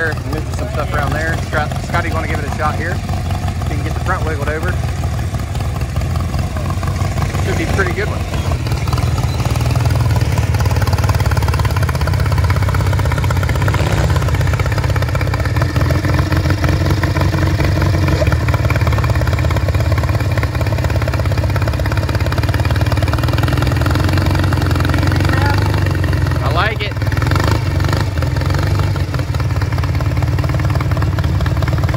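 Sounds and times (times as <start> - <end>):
lawn tractor engine running: 0.0 - 31.9.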